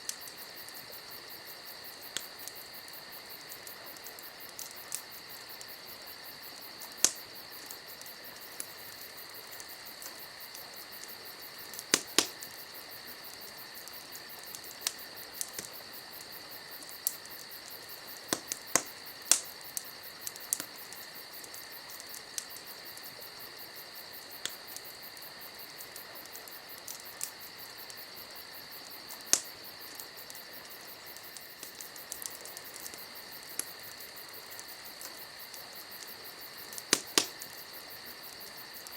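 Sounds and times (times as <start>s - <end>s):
campfire popping and crackling: 0.0s - 38.9s
crickets trilling: 0.0s - 38.9s.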